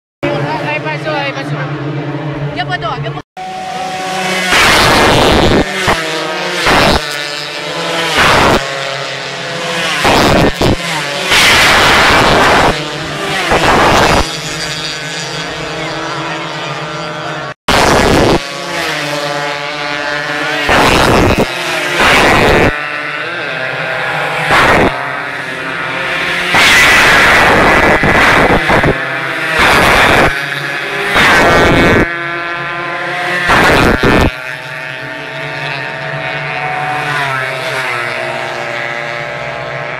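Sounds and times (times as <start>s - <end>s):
racing motorcycles passing: 0.2s - 39.9s.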